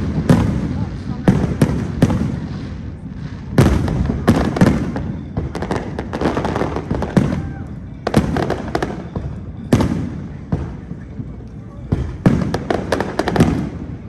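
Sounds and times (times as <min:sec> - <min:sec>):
fireworks booming: 0:00.0 - 0:14.0
fireworks crackling pops: 0:00.0 - 0:14.0.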